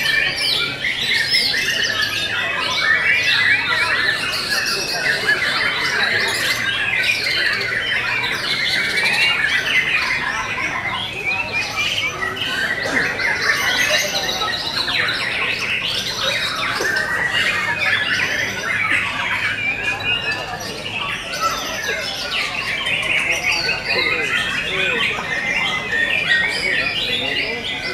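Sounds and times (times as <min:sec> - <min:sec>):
caged birds singing: 0:00.0 - 0:27.9.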